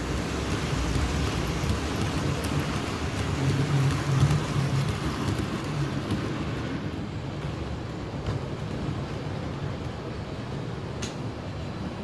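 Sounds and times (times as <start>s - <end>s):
model train rumbling on track: 0.0s - 11.9s.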